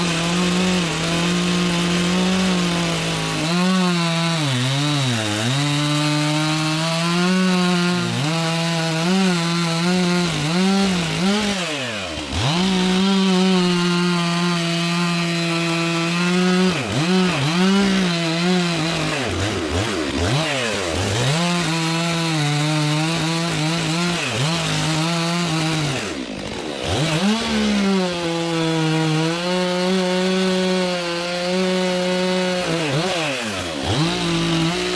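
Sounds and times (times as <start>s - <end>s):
chainsaw cutting at high revs: 0.0s - 34.9s.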